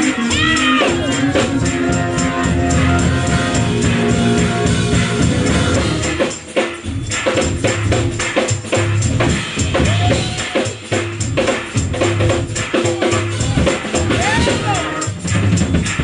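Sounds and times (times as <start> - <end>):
pulsing bass line: 0.0 - 8.2, 11.2 - 16.0
driving drum beat: 0.0 - 16.0
live band playing upbeat groove: 0.0 - 16.0.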